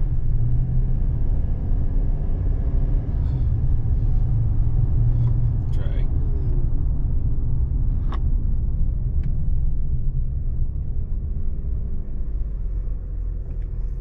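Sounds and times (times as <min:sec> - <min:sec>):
truck driving rumble: 0:00.0 - 0:14.0.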